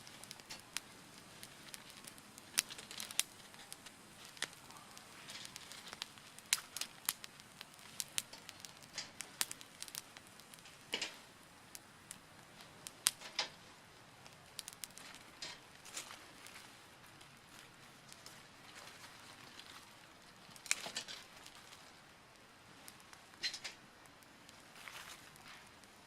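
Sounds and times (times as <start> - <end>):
dry wood crackling and snapping: 0.0 - 26.0.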